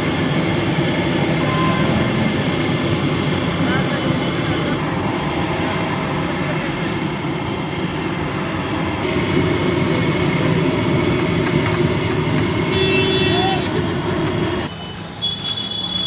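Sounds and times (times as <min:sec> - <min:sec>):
low rumbling noise: 0:00.0 - 0:14.7
oil frying in a wok: 0:00.0 - 0:15.8.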